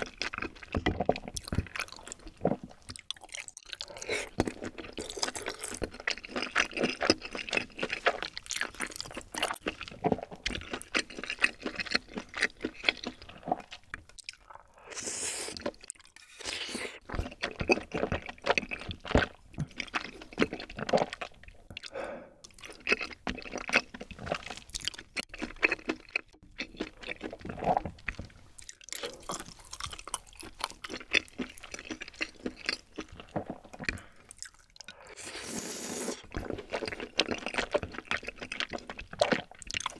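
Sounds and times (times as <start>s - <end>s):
close-miked chewing: 0.0s - 39.9s.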